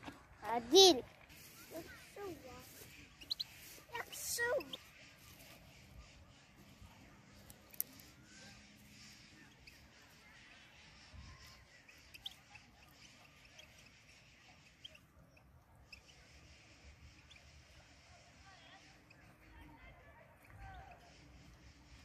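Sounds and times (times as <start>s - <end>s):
faint high bird chirps: 0.4s - 22.0s.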